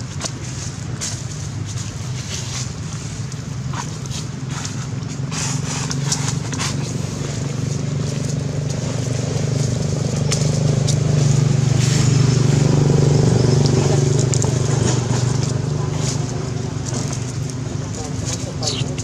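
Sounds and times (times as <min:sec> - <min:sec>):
dry leaves rustling: 0:00.0 - 0:19.0
motor engine running: 0:00.0 - 0:19.0.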